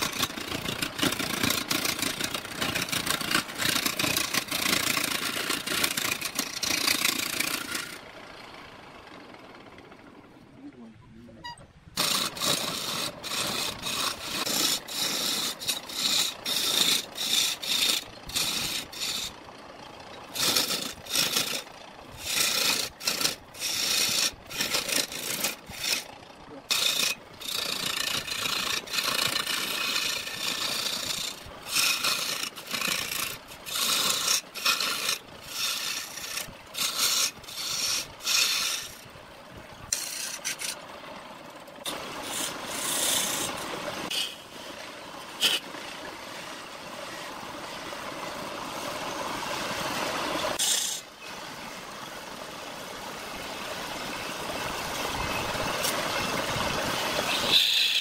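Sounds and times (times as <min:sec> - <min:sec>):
lathe tool scraping wood: 0:00.0 - 0:08.1, 0:12.0 - 0:39.2, 0:39.8 - 0:40.9, 0:41.8 - 0:47.4, 0:48.1 - 0:51.1, 0:54.2 - 0:58.0.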